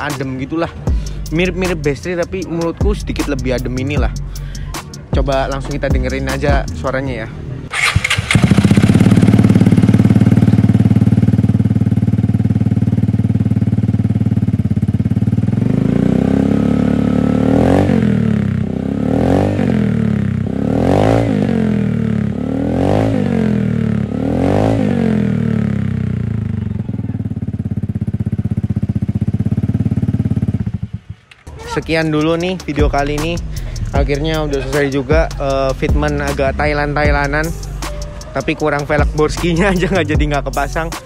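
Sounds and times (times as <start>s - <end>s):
scooter engine idling and revving: 0.0s - 41.0s.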